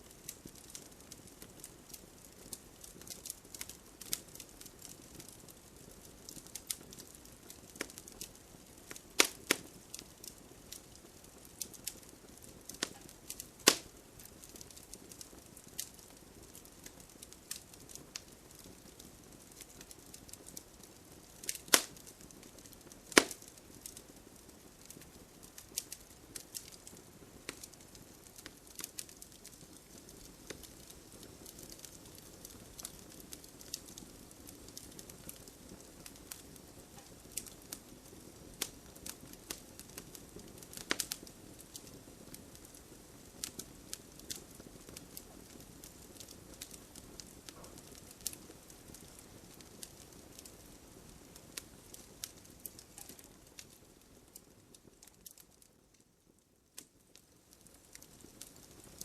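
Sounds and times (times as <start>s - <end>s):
campfire crackling: 0.0s - 59.0s
faint hiss: 0.0s - 59.0s
loud fire pops: 0.2s - 24.0s, 24.8s - 53.8s.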